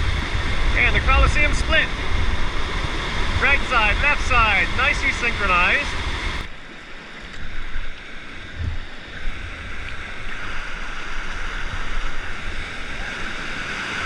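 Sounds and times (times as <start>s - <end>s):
whitewater rapids rushing: 0.0s - 14.0s.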